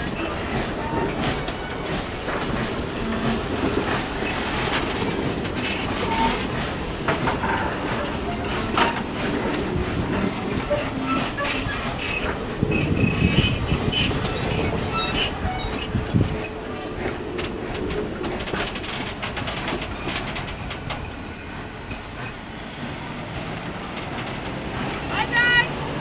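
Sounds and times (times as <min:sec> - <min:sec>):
train wheels clacking over rails: 0:00.0 - 0:26.0.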